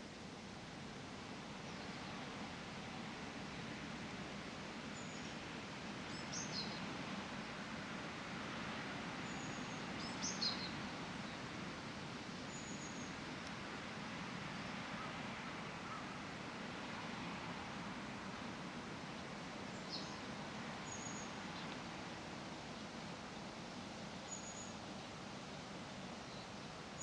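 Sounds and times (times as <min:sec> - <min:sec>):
background environmental hum: 0:00.0 - 0:27.0.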